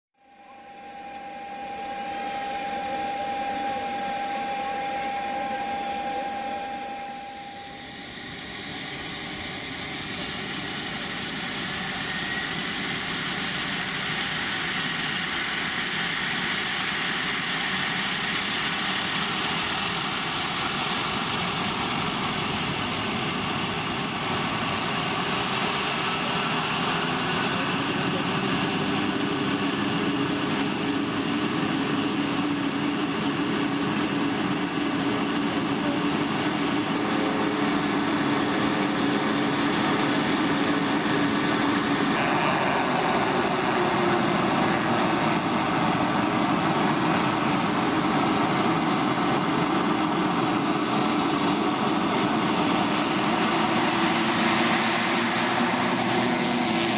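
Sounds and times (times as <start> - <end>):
propeller drone: 0.2 - 56.9
steady whine: 0.2 - 56.9
turbine whine spooling up: 0.2 - 56.9.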